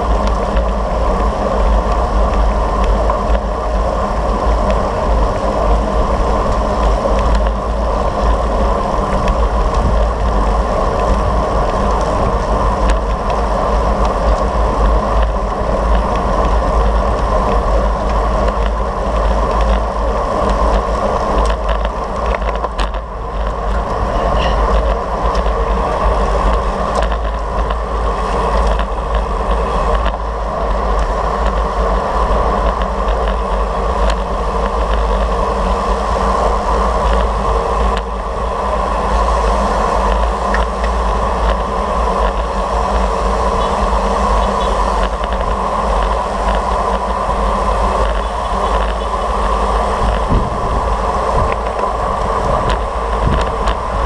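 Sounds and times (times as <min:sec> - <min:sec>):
road and tyre noise: 0:00.0 - 0:54.0
wind buffeting microphone: 0:00.0 - 0:54.0.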